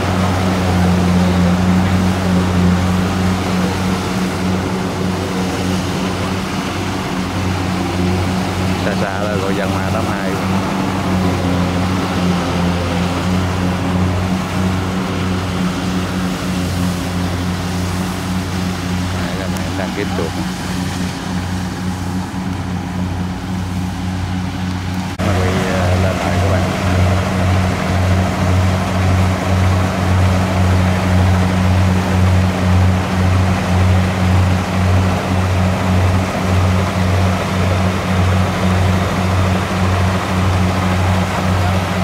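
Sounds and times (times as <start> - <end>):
combine harvester running: 0.0 - 42.0
cutting and threshing machinery: 0.0 - 42.0
diesel engine droning: 0.0 - 42.0.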